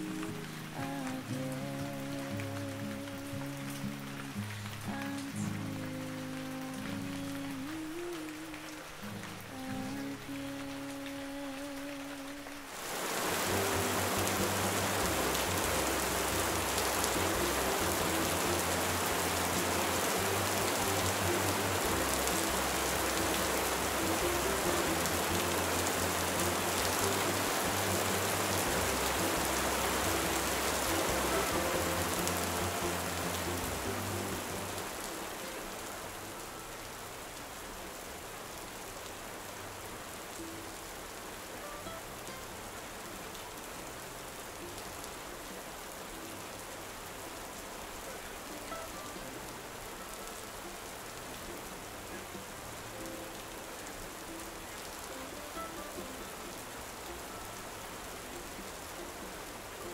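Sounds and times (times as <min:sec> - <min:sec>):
heavy rain on water and foliage: 0:00.0 - 0:59.9.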